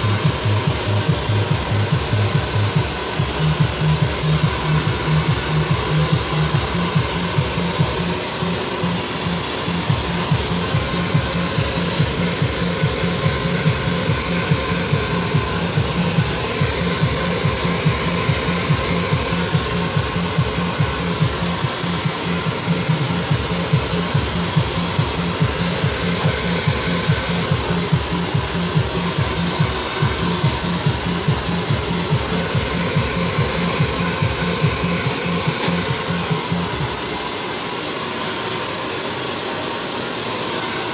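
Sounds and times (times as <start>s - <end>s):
music with low beat: 0.0s - 37.4s
hair dryer blowing: 0.0s - 40.9s.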